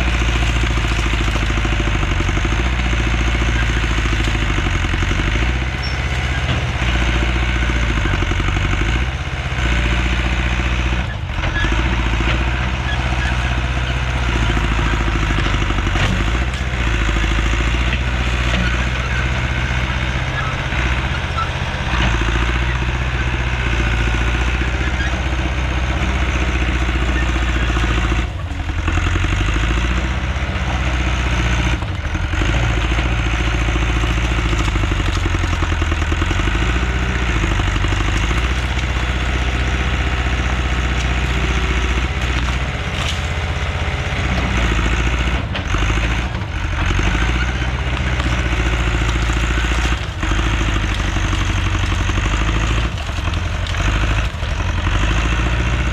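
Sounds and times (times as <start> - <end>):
heavy machine engine running: 0.0 - 55.9.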